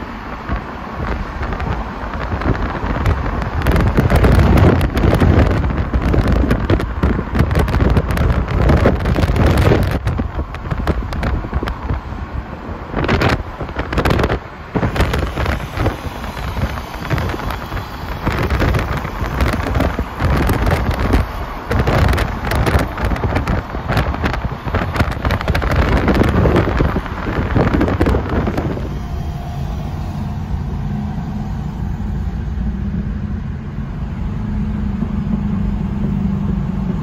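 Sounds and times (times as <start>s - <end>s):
car road noise: 0.0s - 37.0s
wind buffeting microphone: 0.0s - 37.0s.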